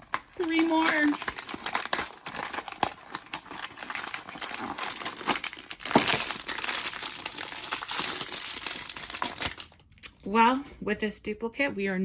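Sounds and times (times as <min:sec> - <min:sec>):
wrapper crackling and tearing: 0:00.0 - 0:10.3.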